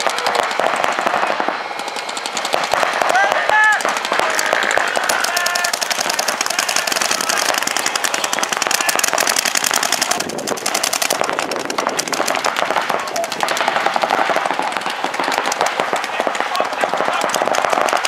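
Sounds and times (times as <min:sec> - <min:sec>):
paintball guns firing rapidly: 0:00.0 - 0:18.0.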